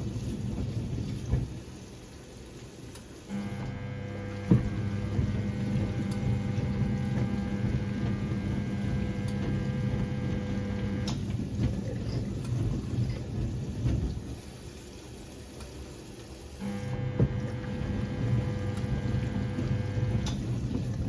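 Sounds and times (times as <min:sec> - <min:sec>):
washing machine motor hum: 0:00.0 - 0:21.0
water and laundry sloshing: 0:00.0 - 0:21.0.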